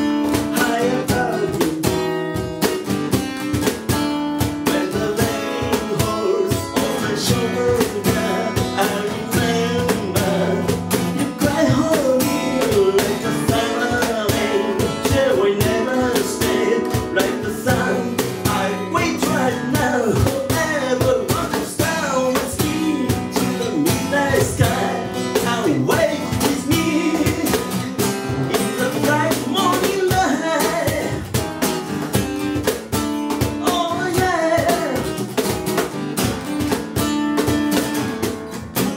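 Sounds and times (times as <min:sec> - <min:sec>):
man singing: 0:00.0 - 0:02.6, 0:04.4 - 0:31.7, 0:32.6 - 0:35.4
cajon beating rhythm: 0:00.0 - 0:38.9
strummed acoustic guitar: 0:00.0 - 0:38.9.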